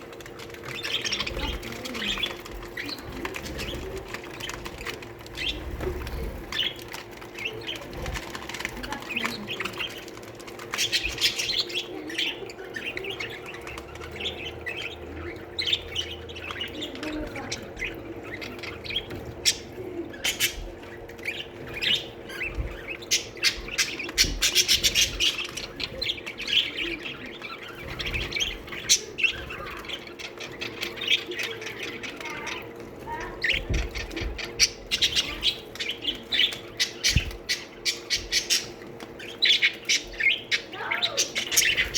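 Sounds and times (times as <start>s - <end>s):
budgerigars chattering: 0.0s - 41.9s.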